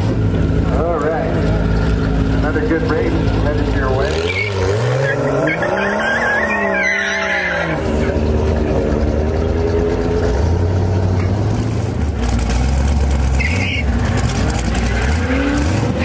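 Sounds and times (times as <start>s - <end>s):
car engines revving and launching: 0.0s - 16.0s.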